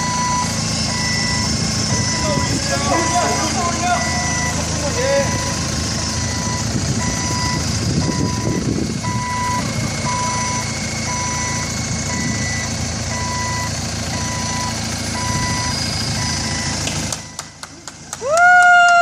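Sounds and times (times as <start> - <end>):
forklift backup alarm beeping: 0.0 - 17.6
forklift engine running: 0.0 - 18.4.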